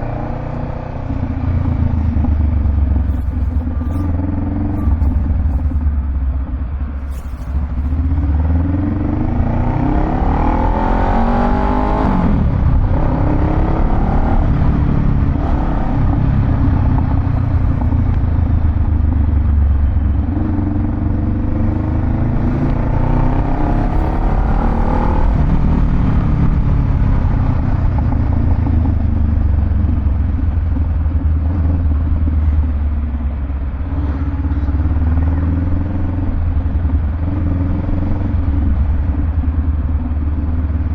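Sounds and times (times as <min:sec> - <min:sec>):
motorcycle engine rumbling and revving: 0:00.0 - 0:40.9.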